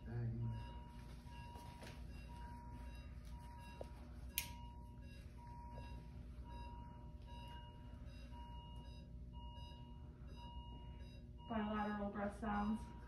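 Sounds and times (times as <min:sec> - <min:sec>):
low room hum: 0:00.0 - 0:13.0
patient monitor beeping: 0:00.0 - 0:13.0.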